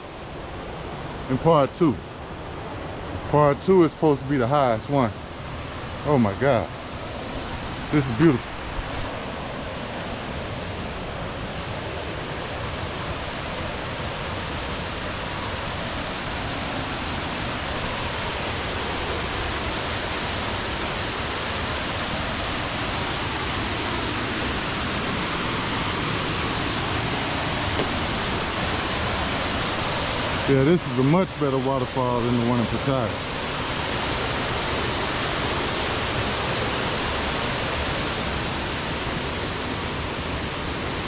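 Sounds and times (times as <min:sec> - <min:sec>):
waterfall rushing: 0:02.2 - 0:41.0.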